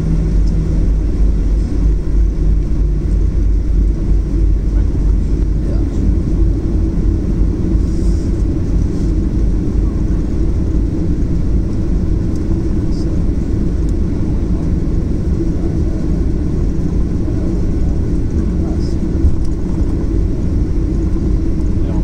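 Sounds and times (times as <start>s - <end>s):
airplane cabin rumble while taxiing: 0.0s - 22.0s.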